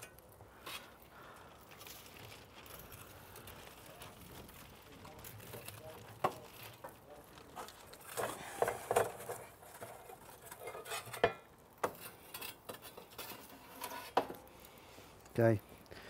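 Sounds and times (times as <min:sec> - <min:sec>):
metal tool scraping embers: 0:00.0 - 0:15.6.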